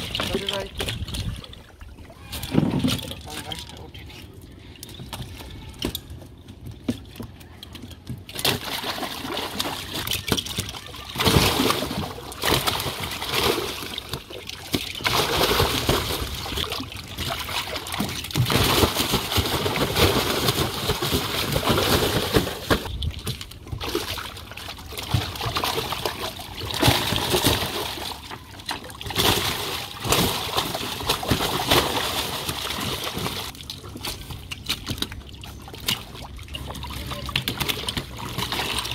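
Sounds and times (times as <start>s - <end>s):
fish thrashing and splashing: 0.0s - 38.9s.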